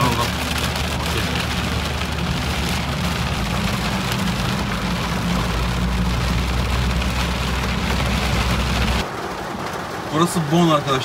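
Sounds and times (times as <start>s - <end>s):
heavy rain drumming on car roof: 0.0s - 11.0s.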